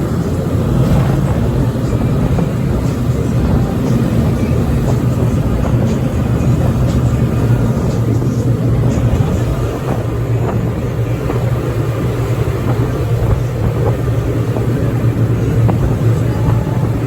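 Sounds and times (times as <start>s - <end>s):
outboard motors droning: 0.0s - 17.0s
water rushing: 0.0s - 17.0s.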